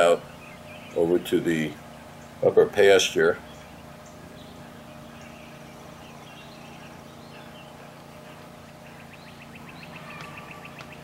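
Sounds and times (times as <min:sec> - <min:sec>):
faint bird chirps: 0:00.0 - 0:02.5, 0:03.3 - 0:11.0
low outdoor hum: 0:00.0 - 0:11.0.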